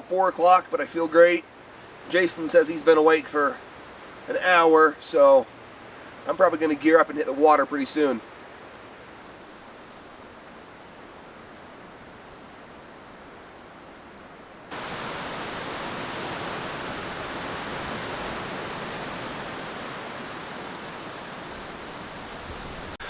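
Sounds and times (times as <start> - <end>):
steady rushing outdoor noise: 0.0 - 23.0.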